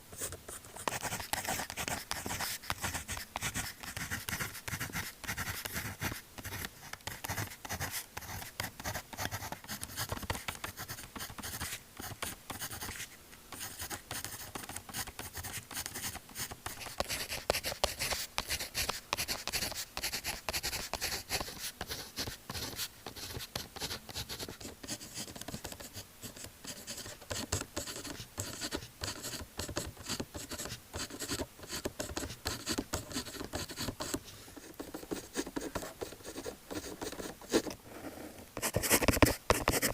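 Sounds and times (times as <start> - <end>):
pen scratching on paper: 0.2 - 39.9.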